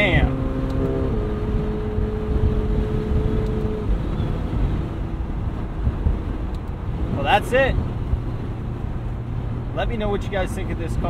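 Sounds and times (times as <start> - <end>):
car engine running at low revs: 0.0 - 11.0
wind noise: 0.0 - 11.0.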